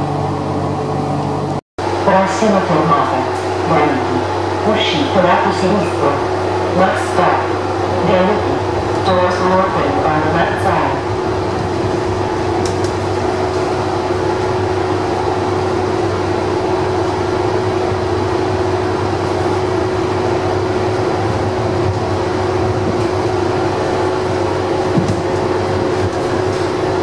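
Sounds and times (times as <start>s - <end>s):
metro train running on track: 0.0s - 27.0s.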